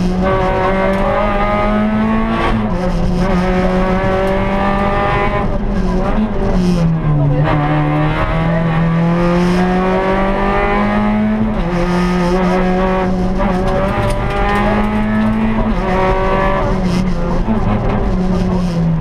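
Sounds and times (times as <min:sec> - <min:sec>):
low road rumble: 0:00.0 - 0:19.0
rally car engine from inside: 0:00.0 - 0:19.0.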